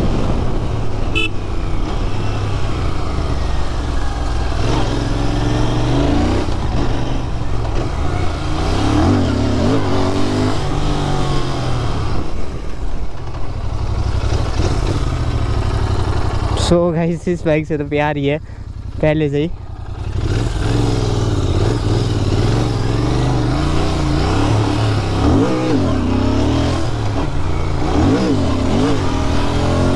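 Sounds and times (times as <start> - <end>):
motorcycle engine revving: 1.1 - 17.0, 18.6 - 29.9.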